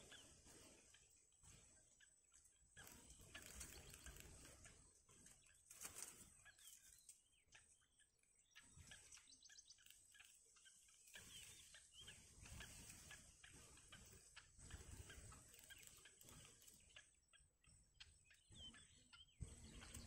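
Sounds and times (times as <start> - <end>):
bird ticking: 0.0 - 20.0
nestlings chirping: 0.0 - 20.0
short curved bird calls: 0.0 - 20.0.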